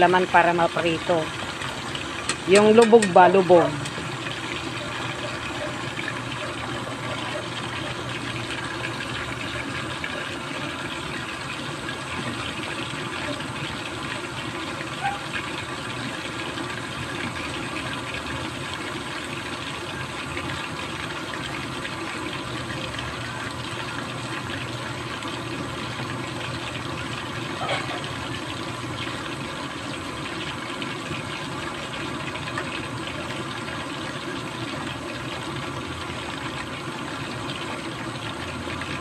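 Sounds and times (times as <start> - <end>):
chicken deep-frying in sizzling oil: 0.0 - 39.0.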